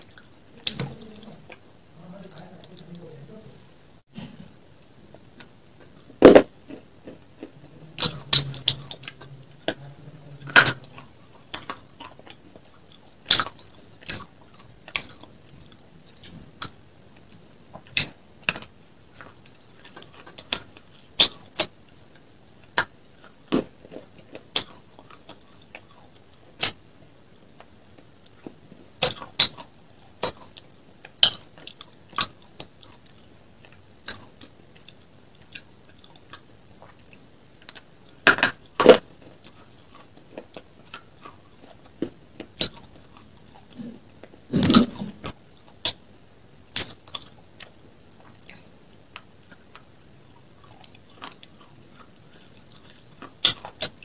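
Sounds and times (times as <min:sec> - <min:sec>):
person crunching brittle food: 0:05.4 - 0:54.0.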